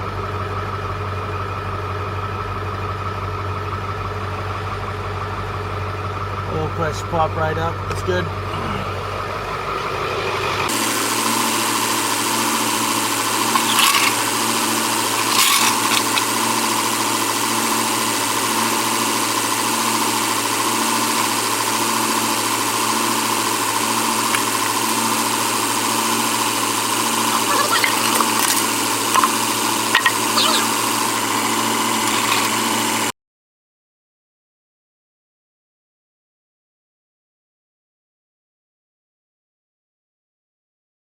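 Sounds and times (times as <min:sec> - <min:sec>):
diesel pickup engine idling: 0:00.0 - 0:33.1.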